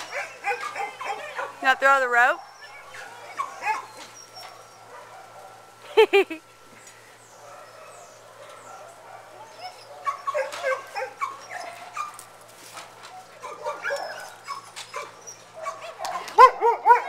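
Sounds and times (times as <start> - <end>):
dogs barking and yipping: 0.0 - 6.1, 7.3 - 17.0.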